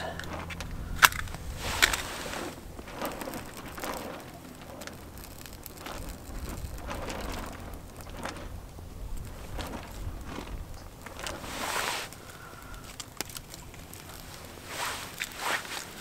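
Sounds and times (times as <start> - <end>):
match scraping on box: 0.0 - 8.6, 11.2 - 16.0
match flaring hiss: 0.0 - 16.0
ticks and rustling of twigs: 0.0 - 16.0.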